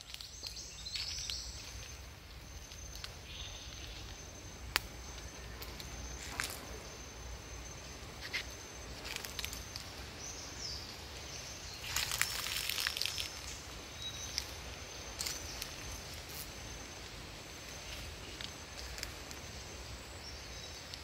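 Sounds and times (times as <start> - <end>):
dry leaves rustling: 0.0 - 21.0
steady soft hiss: 0.0 - 21.0.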